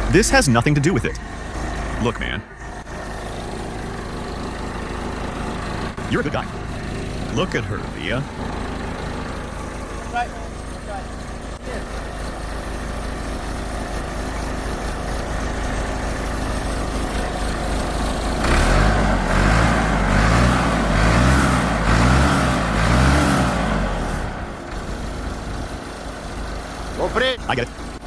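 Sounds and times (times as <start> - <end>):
backhoe engine revving: 0.0 - 28.0.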